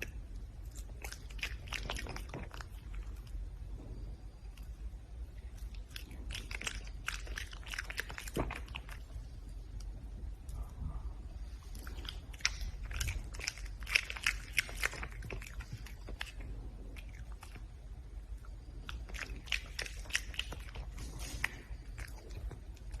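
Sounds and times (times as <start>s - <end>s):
red panda crunching food: 0.0s - 3.4s, 5.4s - 10.6s, 11.5s - 17.7s, 18.3s - 23.0s.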